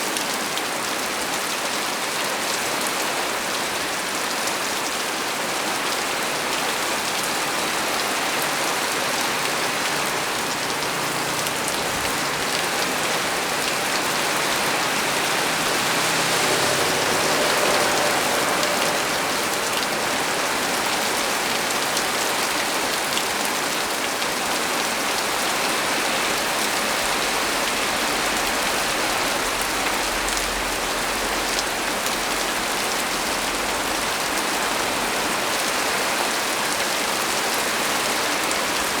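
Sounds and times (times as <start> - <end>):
heavy rain on a tree: 0.0 - 39.0.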